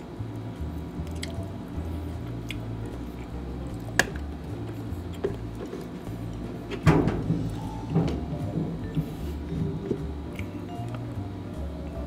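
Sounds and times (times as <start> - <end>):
background music with walking bass: 0.0 - 12.0.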